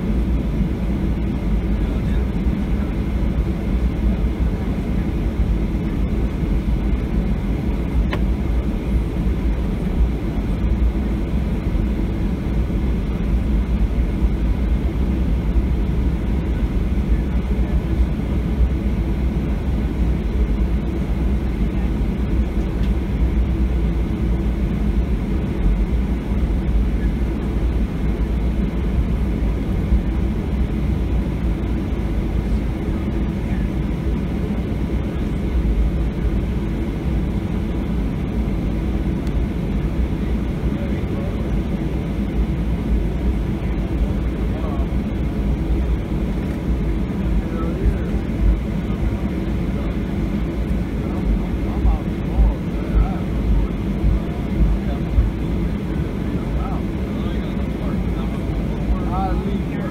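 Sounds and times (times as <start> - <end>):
low rumble inside airplane cabin: 0.0 - 59.9.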